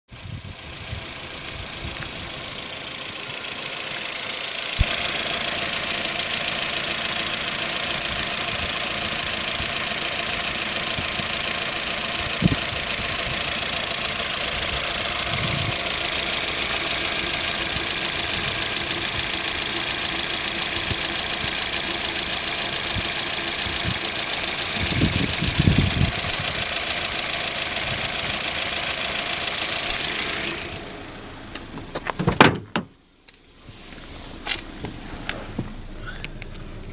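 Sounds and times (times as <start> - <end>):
car engine idling: 0.1 - 36.9.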